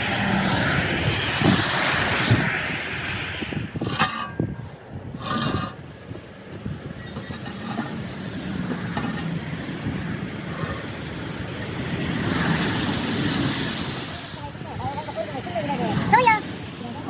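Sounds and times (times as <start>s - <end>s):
vehicle engine rumble: 0.0s - 14.8s.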